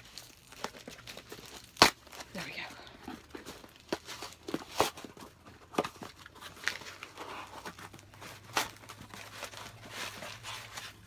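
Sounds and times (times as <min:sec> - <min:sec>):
packing wrap crinkling and tearing: 0:00.0 - 0:11.0.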